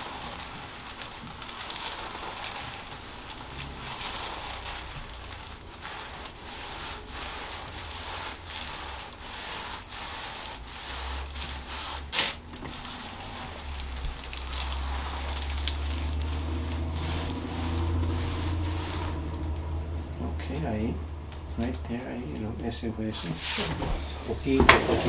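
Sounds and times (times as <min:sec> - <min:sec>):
hands rubbing over clothing: 0:00.0 - 0:24.6
low steady hum: 0:02.8 - 0:25.0.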